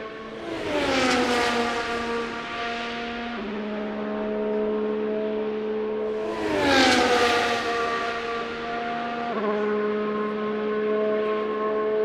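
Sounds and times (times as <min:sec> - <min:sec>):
distant racing engines: 0:00.0 - 0:12.0
racing cars passing by: 0:00.0 - 0:12.0.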